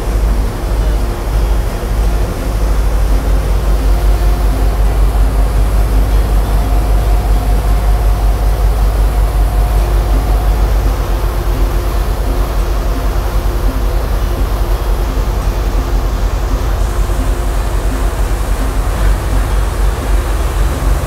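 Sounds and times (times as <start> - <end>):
boat engine rumbling: 0.0 - 21.0
rush of wake water: 0.0 - 21.0
wind: 0.0 - 21.0.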